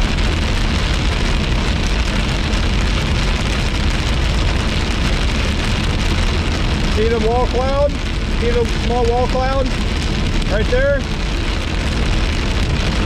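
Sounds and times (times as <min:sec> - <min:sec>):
heavy rain on car windshield: 0:00.0 - 0:13.0
road rumble: 0:00.0 - 0:13.0.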